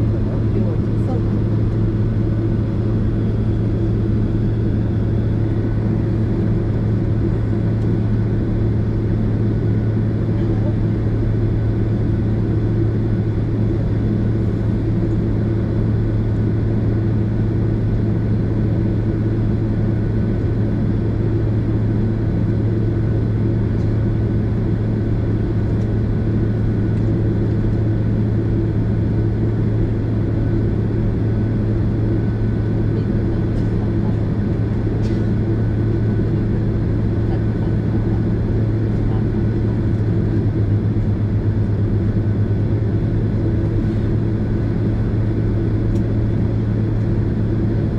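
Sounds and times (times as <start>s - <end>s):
airliner cabin drone: 0.0s - 47.9s.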